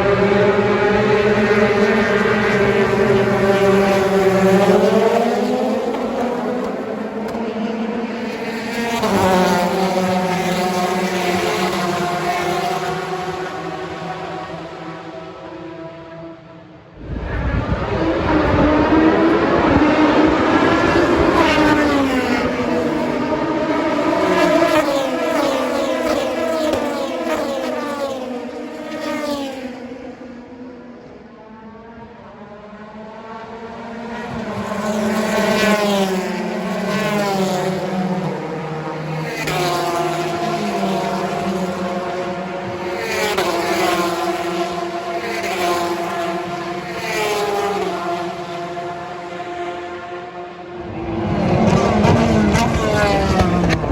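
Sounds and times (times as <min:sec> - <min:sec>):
drone of distant cars: 0:00.0 - 0:53.9
race cars passing at speed: 0:00.0 - 0:53.9.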